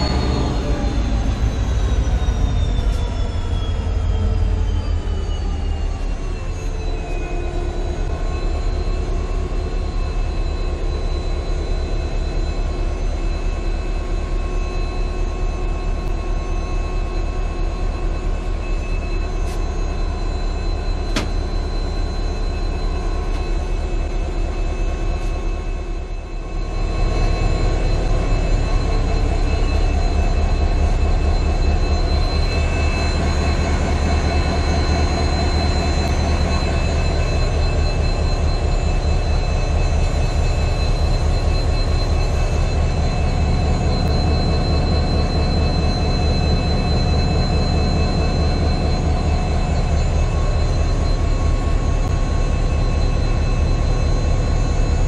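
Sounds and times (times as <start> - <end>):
locomotive diesel engine drone: 0.0 - 55.0.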